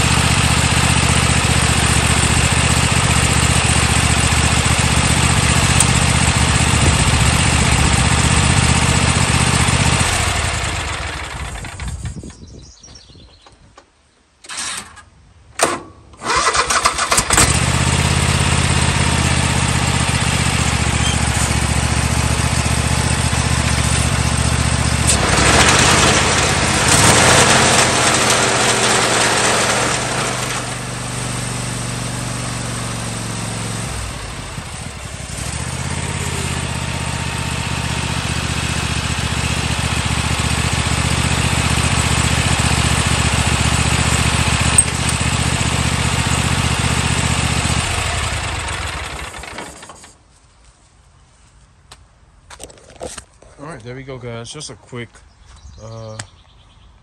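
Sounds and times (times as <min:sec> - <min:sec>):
mower engine cranking and running: 0:00.0 - 0:12.2, 0:14.4 - 0:50.3.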